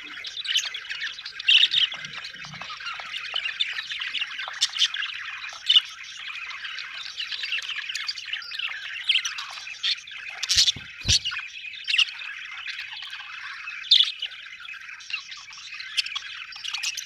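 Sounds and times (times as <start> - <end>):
budgerigars chattering and warbling: 0.0 - 17.0.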